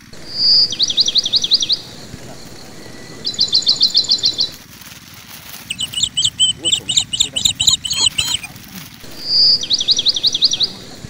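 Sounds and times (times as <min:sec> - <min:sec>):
songbird singing: 0:00.0 - 0:04.6, 0:05.6 - 0:11.0.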